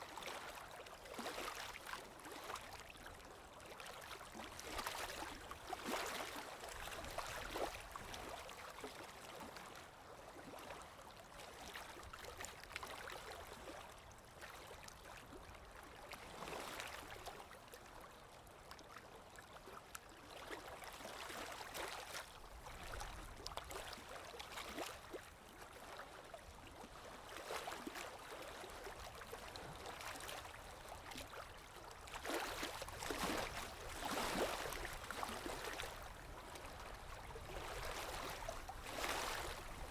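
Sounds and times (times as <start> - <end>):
water lapping and splashing: 0.1 - 9.8, 11.6 - 17.8, 19.0 - 39.9.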